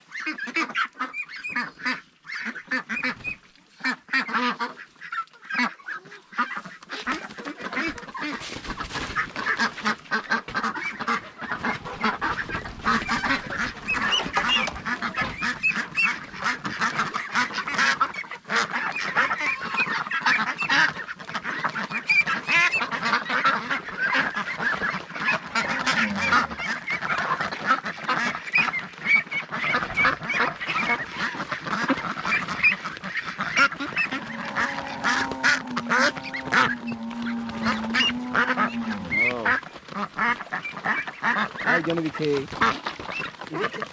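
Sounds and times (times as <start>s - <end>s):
ducks calling: 0.0s - 43.9s.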